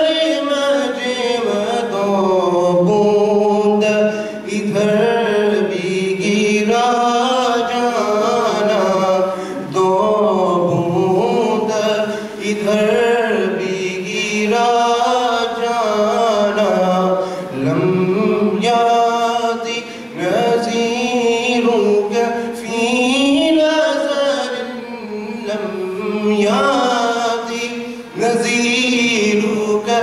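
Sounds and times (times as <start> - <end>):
man chanting into a microphone: 0.0 - 30.0.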